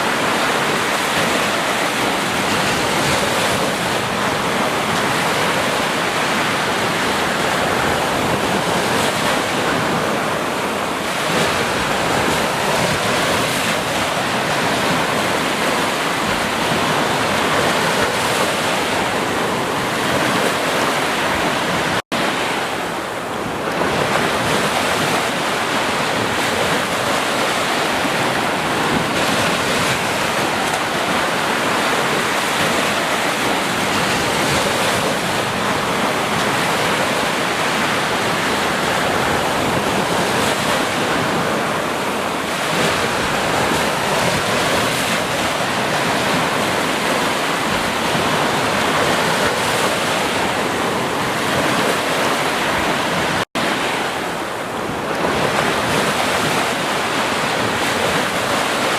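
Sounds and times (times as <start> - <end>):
ocean surf washing onto beach: 0.0 - 58.9.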